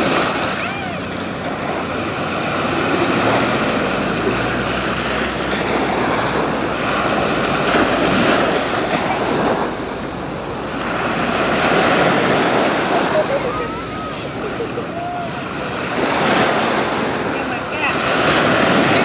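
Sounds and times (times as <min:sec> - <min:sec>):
small waves breaking on sand: 0:00.0 - 0:19.0.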